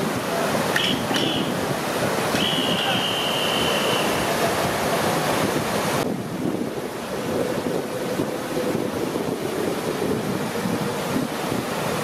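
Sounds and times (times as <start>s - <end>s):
river water rushing over weir: 0.0s - 12.0s.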